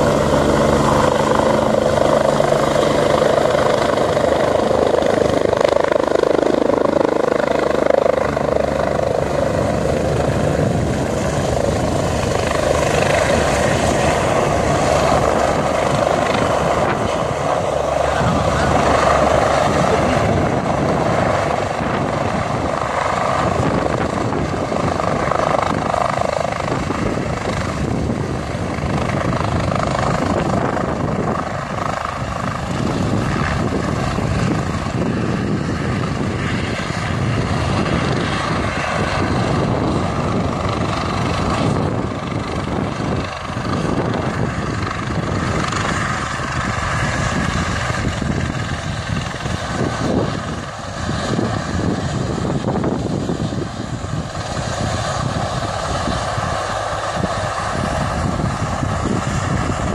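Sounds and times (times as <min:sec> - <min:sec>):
helicopter rotor and turbine drone: 0:00.0 - 0:59.9.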